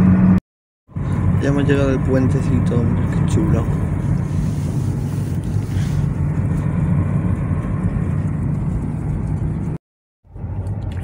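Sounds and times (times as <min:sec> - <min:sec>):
road and engine rumble inside car: 0:00.0 - 0:11.0.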